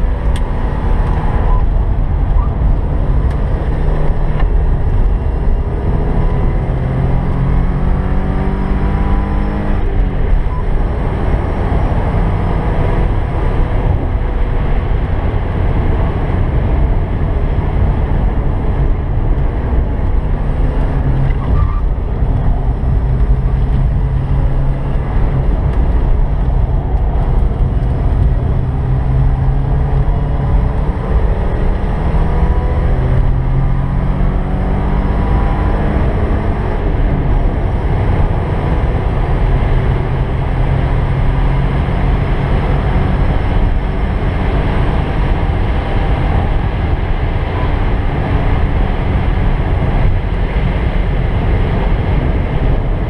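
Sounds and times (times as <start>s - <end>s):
car engine running hard: 0.0s - 53.0s
road and wind noise: 0.0s - 53.0s.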